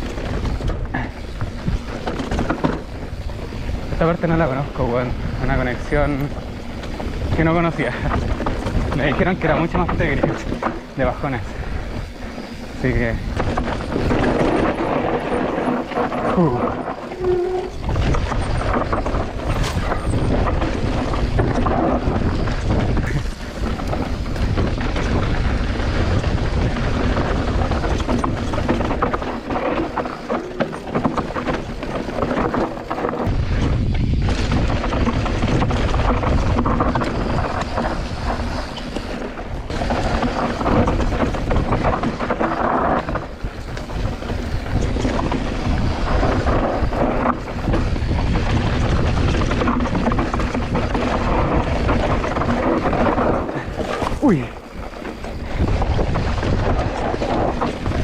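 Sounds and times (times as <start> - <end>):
bike frame knocking and rattling: 0.0 - 58.0
tyres rolling over dirt and rocks: 0.0 - 58.0
wind buffeting microphone: 0.0 - 58.0.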